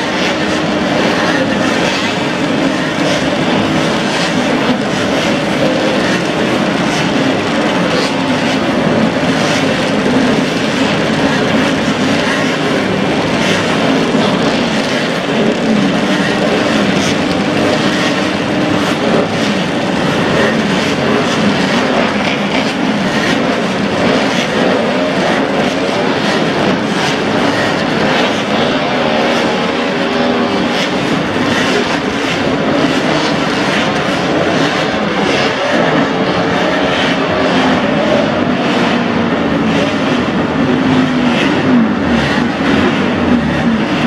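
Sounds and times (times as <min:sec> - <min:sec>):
motorcycle engines running: 0:00.0 - 0:44.0.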